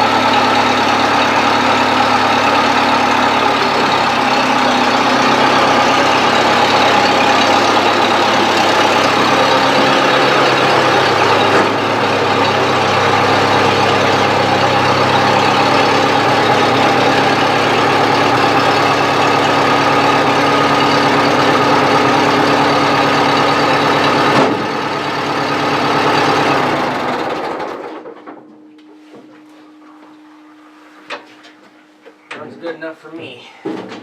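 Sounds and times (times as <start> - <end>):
engine idling: 0.0 - 28.1.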